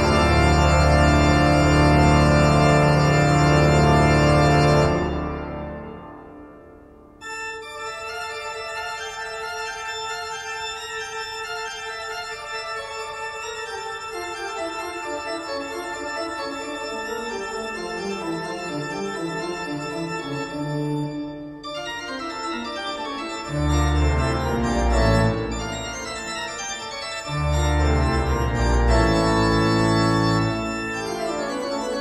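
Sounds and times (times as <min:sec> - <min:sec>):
instrumental music with keyboard chords: 0:00.0 - 0:32.0.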